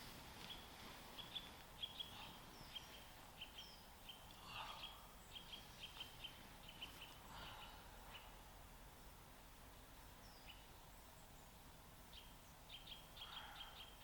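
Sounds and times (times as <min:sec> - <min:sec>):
small birds chirping: 0:00.4 - 0:08.7, 0:09.6 - 0:14.0.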